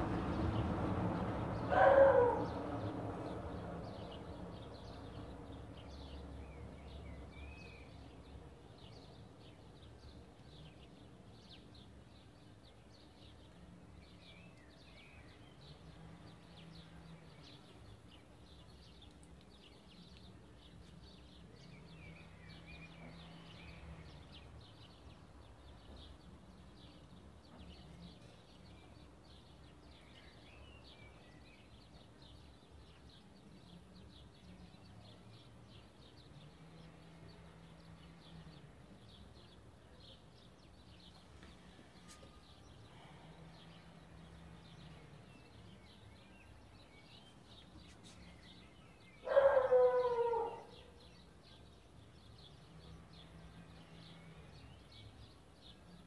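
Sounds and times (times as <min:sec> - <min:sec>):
birds chirping: 0:01.2 - 0:56.0.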